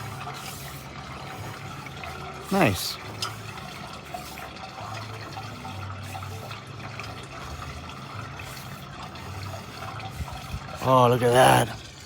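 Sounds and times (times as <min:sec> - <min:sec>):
water running through drain: 0:00.0 - 0:12.0.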